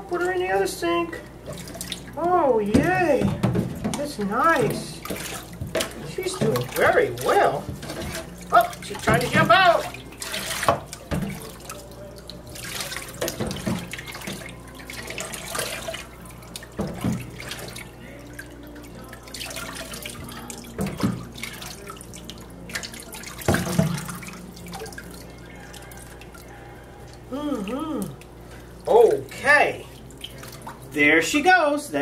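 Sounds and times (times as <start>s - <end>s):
water pouring and splashing in sink: 0.0s - 31.6s.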